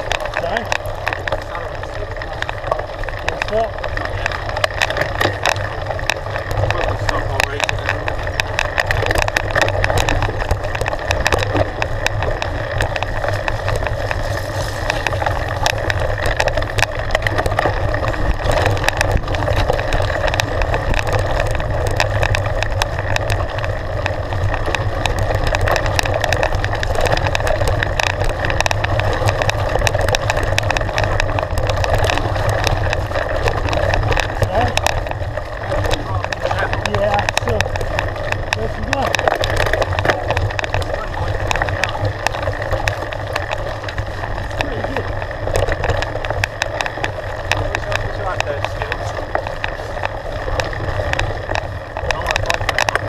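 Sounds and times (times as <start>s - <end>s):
bike clicks and rattles: 0.0s - 53.0s
bike tyres rumbling on gravel: 0.0s - 53.0s.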